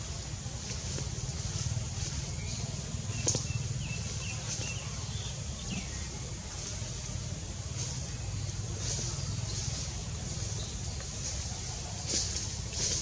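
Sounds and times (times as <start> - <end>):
low forest rumble: 0.0 - 13.0.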